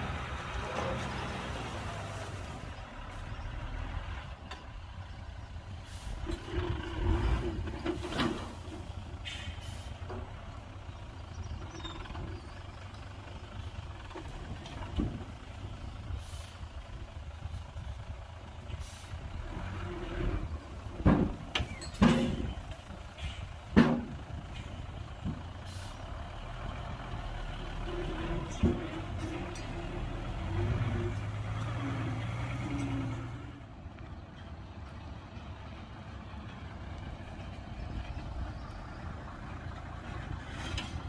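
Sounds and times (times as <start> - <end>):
heavy diesel engines running: 0.0 - 41.0.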